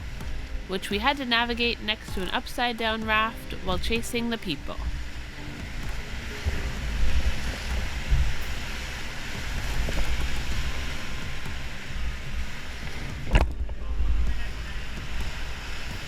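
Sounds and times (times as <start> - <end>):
river rapid rushing: 0.0 - 16.0
wind buffeting microphone: 0.0 - 16.0.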